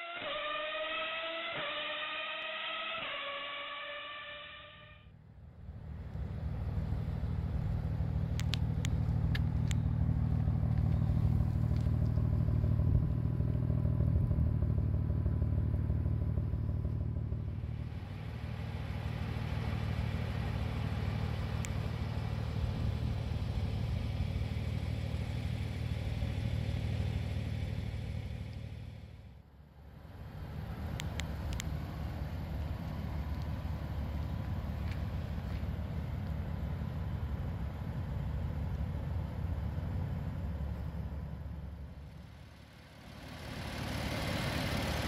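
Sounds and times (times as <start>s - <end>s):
car engine idling: 0.2s - 45.0s.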